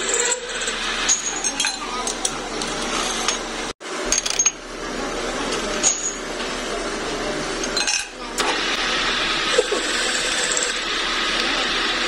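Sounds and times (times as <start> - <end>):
steady workshop noise: 0.0 - 12.0.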